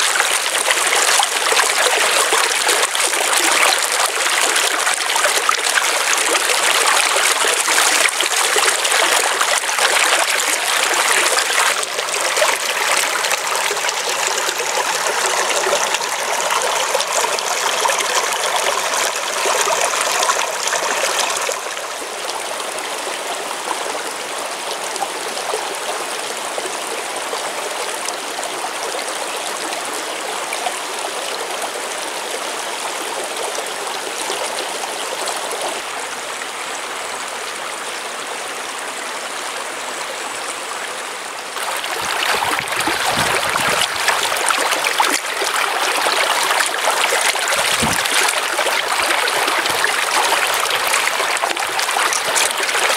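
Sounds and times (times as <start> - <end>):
stream running over stones: 0.0 - 52.9.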